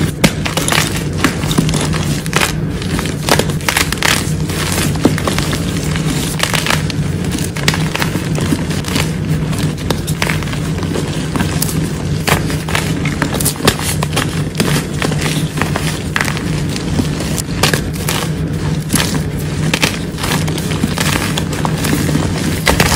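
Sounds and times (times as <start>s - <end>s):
chalk crunching and crumbling: 0.0s - 22.9s
steady low hum: 0.0s - 22.9s.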